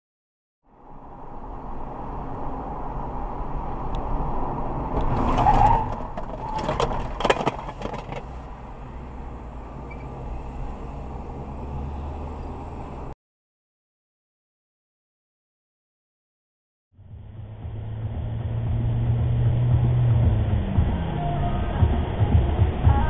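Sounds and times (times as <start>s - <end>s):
car engine and road rumble: 0.6s - 13.2s, 17.0s - 23.0s.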